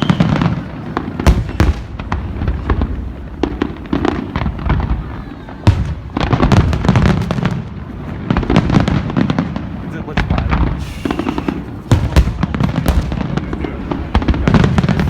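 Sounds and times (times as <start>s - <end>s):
fireworks bangs and cracks: 0.0s - 15.0s
fireworks crackling: 0.0s - 15.0s.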